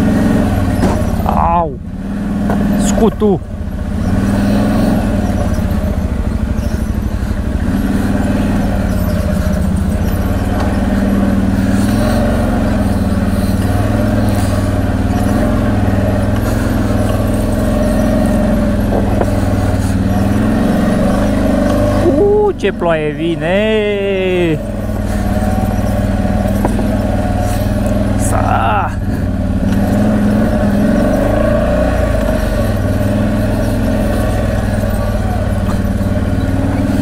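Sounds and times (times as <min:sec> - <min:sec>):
atv engine running under throttle: 0:00.0 - 0:37.0.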